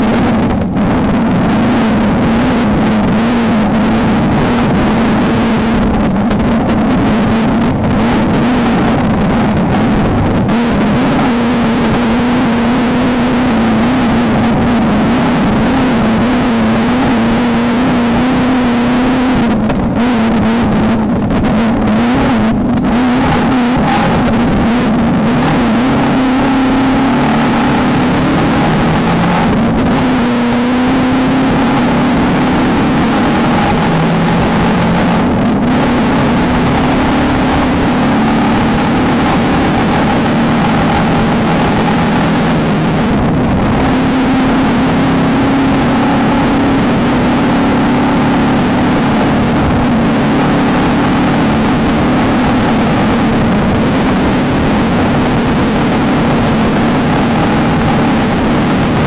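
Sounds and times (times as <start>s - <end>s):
constant rush of noise: 0.0s - 59.0s
race car engine revving hard: 0.0s - 59.0s.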